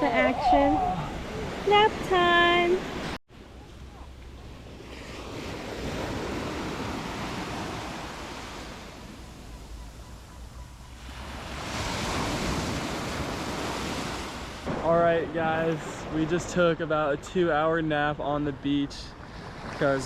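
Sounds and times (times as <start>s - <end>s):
sea waves breaking on shore: 0.0s - 20.0s.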